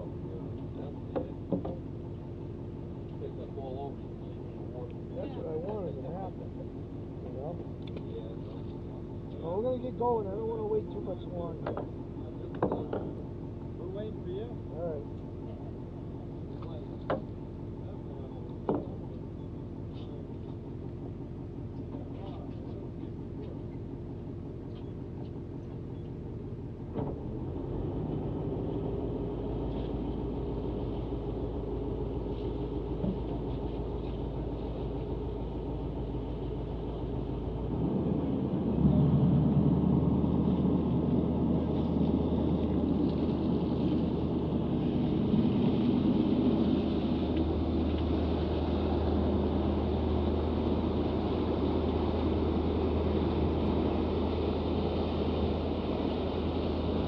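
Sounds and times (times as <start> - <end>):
boat engine humming: 0.0 - 57.0.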